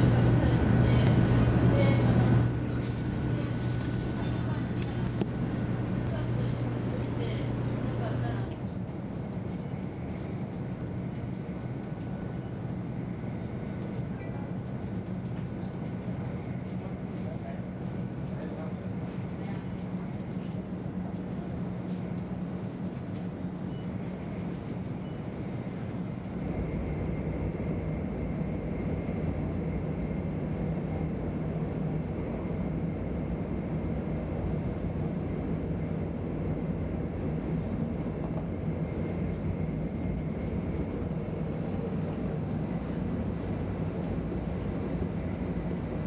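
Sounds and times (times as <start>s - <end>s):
train running noise inside carriage: 0.0s - 46.0s.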